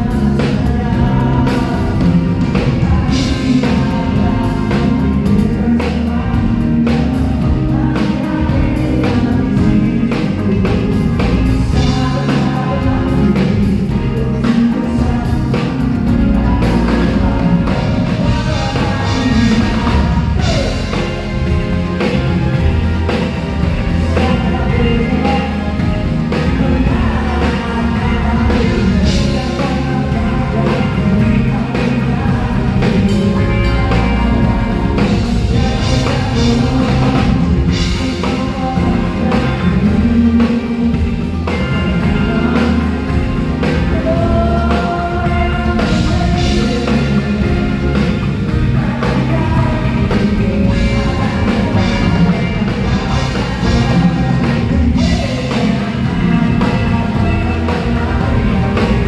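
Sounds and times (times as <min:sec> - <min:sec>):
drum kit: 0:00.0 - 0:59.0
live rock band playing: 0:00.0 - 0:59.0
person singing: 0:00.0 - 0:59.0.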